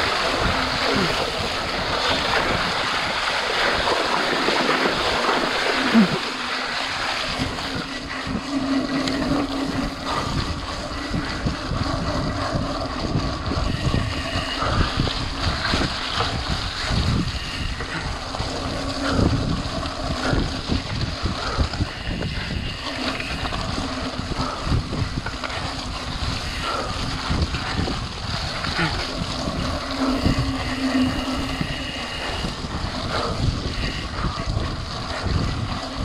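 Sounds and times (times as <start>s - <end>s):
tyres rolling through mud: 0.0s - 36.0s
wind noise on microphone: 0.0s - 36.0s.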